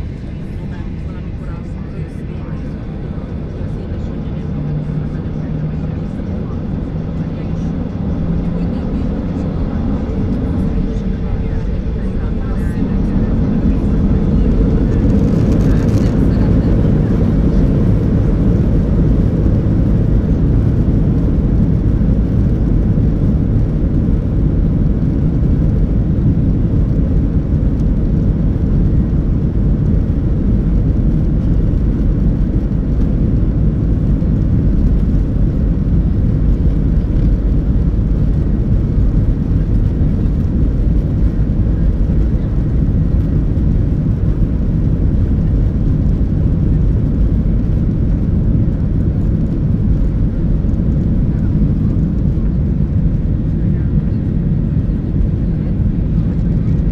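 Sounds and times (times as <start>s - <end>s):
jet engines droning in cabin: 0.0s - 56.9s.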